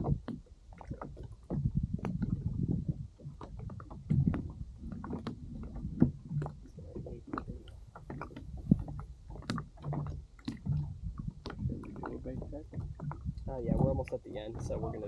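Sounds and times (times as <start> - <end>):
water lapping against kayak hull: 0.0 - 15.0
low rumble: 1.6 - 15.0.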